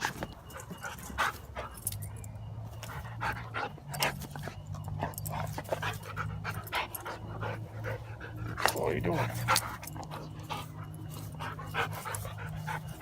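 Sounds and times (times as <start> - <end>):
dog whining and whimpering: 0.0 - 13.0.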